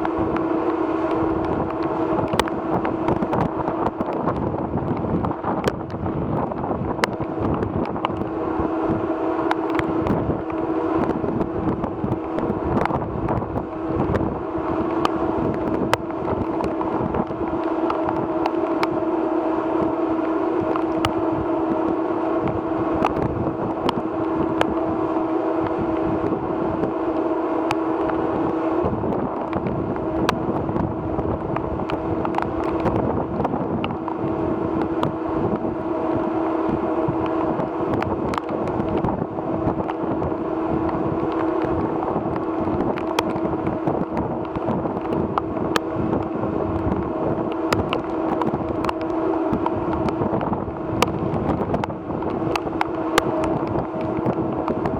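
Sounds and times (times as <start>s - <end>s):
wind on microphone: 0.0s - 54.9s.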